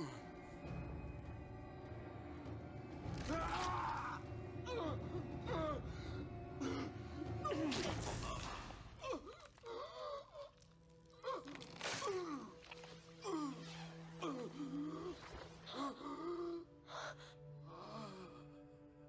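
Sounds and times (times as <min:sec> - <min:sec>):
low background music: 0:00.0 - 0:19.0.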